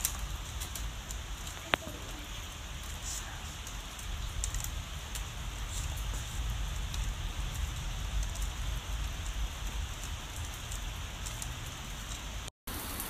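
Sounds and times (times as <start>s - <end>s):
rain drop ticks: 0.0s - 13.0s
steady rain hiss: 0.0s - 13.0s.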